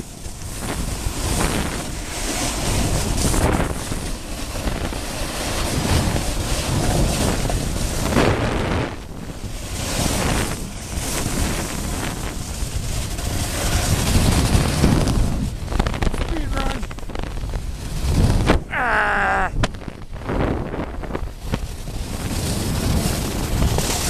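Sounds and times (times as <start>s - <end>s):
snowboard scraping over snow: 0.0s - 24.0s
wind rushing over microphone: 0.0s - 24.0s.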